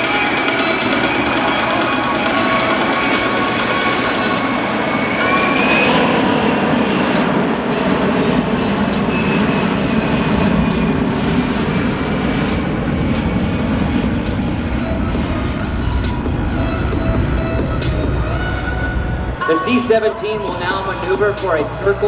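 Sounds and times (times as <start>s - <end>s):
jet engines in flight: 0.0s - 22.0s.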